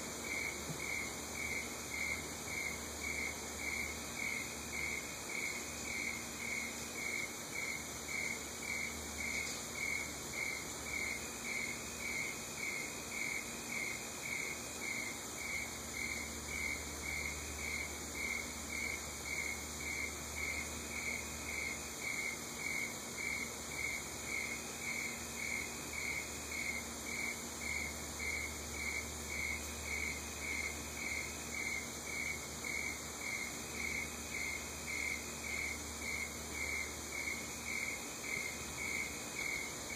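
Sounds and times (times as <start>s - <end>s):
high insect hiss: 0.0s - 39.9s
cricket chirping: 0.1s - 39.9s.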